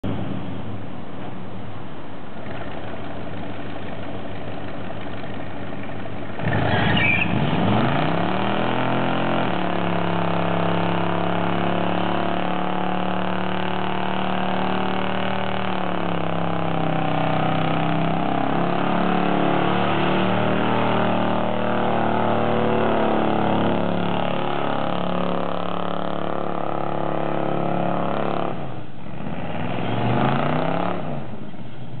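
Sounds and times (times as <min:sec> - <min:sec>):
truck engine revving: 0:04.6 - 0:31.5.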